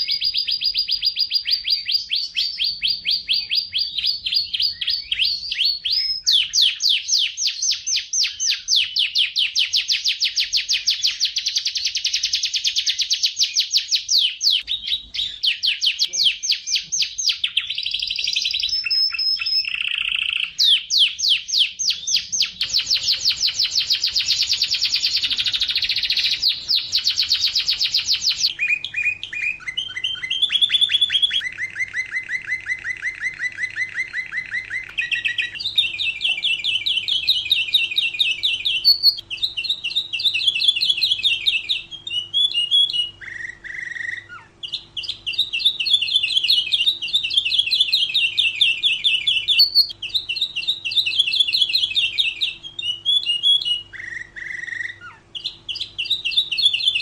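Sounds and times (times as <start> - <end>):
canary singing rapid trills: 0.0 - 57.0.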